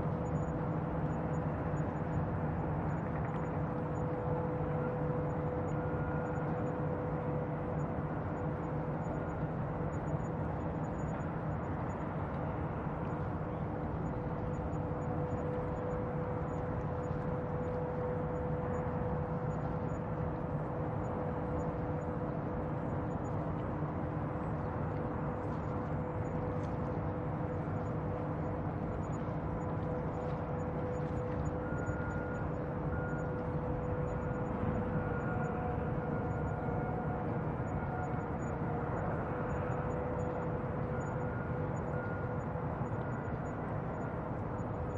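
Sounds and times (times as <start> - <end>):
constant hum: 0.0 - 44.9.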